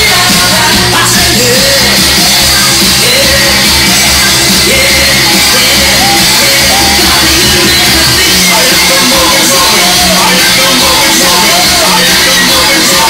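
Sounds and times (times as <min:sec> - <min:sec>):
music with pulsing bass beat: 0:00.0 - 0:13.0
person singing: 0:00.0 - 0:13.0.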